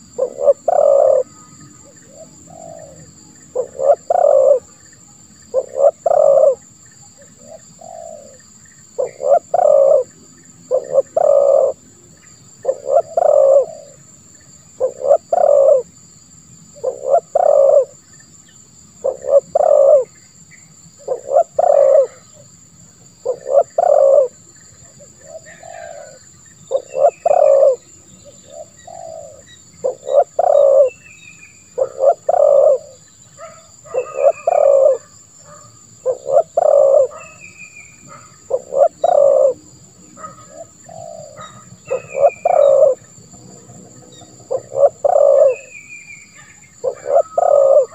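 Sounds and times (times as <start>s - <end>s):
dove cooing: 0.0s - 4.8s, 5.5s - 11.8s, 12.6s - 14.0s, 14.7s - 16.0s, 16.8s - 18.0s, 19.0s - 20.2s, 21.0s - 22.4s, 23.2s - 31.1s, 31.7s - 47.9s.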